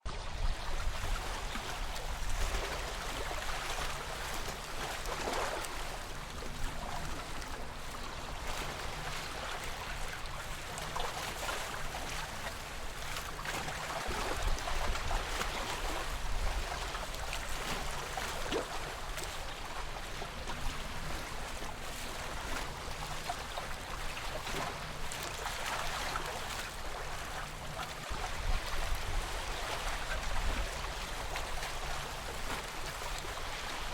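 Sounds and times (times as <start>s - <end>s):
lake water lapping: 0.1s - 33.9s.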